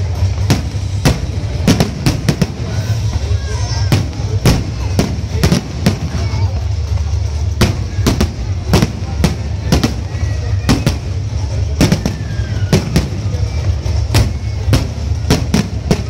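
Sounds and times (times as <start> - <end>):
fireworks bangs: 0.0 - 16.0
steady low rumble: 0.0 - 16.0.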